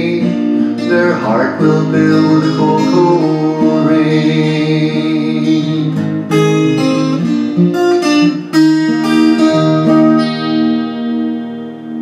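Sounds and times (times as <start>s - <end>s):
acoustic guitar picking and strumming: 0.0s - 12.0s.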